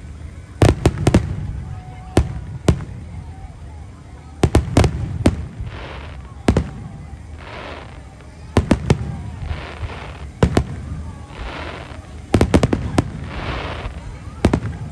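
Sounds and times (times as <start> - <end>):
fireworks crackling hiss: 0.0 - 14.9
fireworks bangs: 0.6 - 3.6, 4.3 - 14.9.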